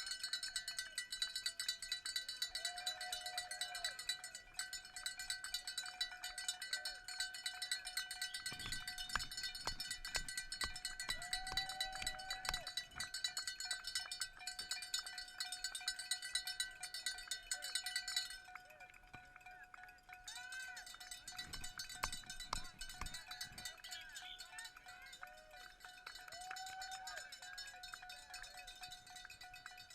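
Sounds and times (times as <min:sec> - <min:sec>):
cowbell shaken rapidly: 0:00.0 - 0:29.9.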